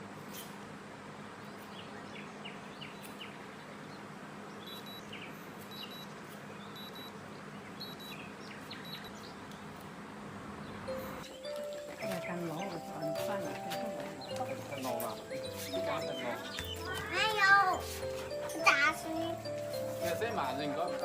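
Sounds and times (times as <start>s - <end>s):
small birds chirping: 1.3s - 21.0s.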